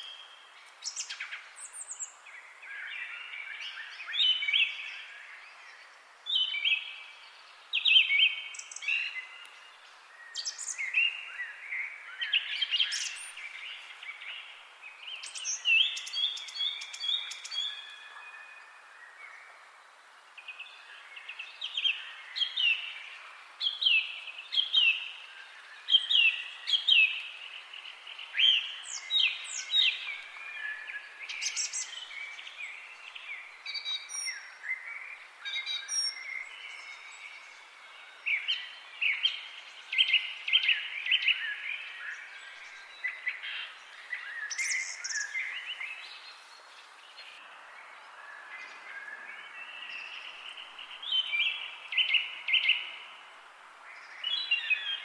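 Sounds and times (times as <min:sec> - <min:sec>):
songbirds chirping and singing: 0:00.0 - 0:53.3, 0:53.9 - 0:55.0
faint hiss: 0:00.0 - 0:55.0.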